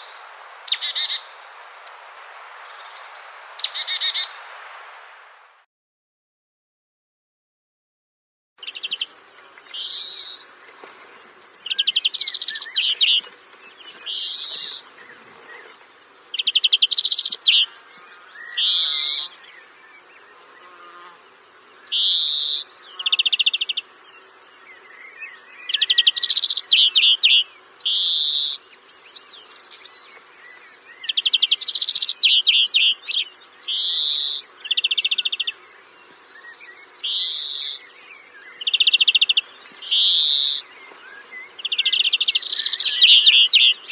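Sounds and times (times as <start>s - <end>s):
bird calling with buzzy trills: 0.0s - 4.4s, 8.6s - 43.9s.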